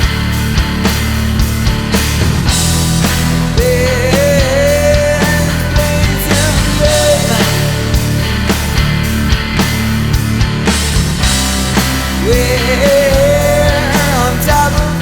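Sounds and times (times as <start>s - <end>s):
drum hits: 0.0s - 14.9s
bending lead melody: 0.0s - 15.0s
rock band playing: 0.0s - 15.0s.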